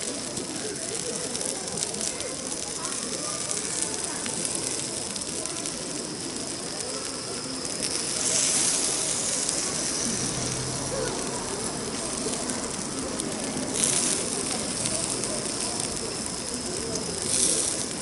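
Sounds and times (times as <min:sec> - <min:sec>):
meat sizzling on grill: 0:00.0 - 0:18.0.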